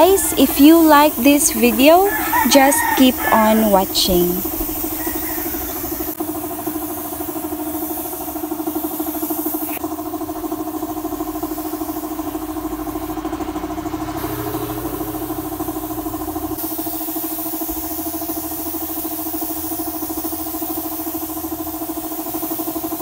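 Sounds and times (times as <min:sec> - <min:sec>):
air compressor running: 0:00.0 - 0:23.0.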